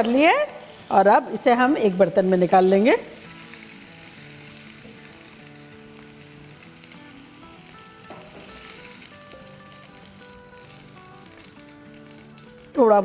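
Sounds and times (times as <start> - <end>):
meatballs sizzling in a frying pan: 0.0 - 13.0
soft background music: 0.0 - 13.0.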